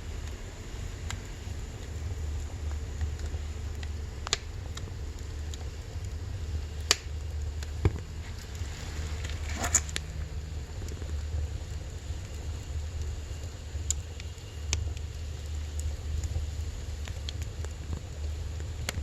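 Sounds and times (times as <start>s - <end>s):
low rumble of stove: 0.0s - 19.0s
firewood crackling pops: 1.0s - 19.0s.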